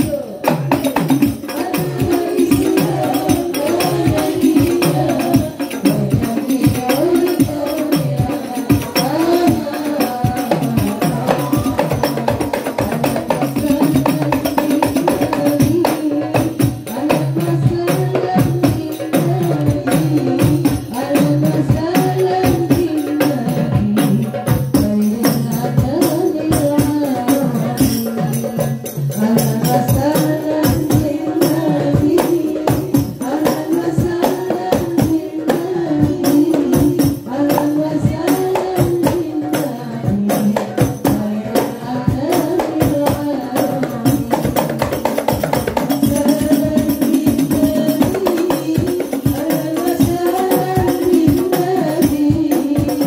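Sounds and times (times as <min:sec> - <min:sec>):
hand frame drums: 0:00.0 - 0:53.0
voices singing in unison: 0:00.0 - 0:53.0.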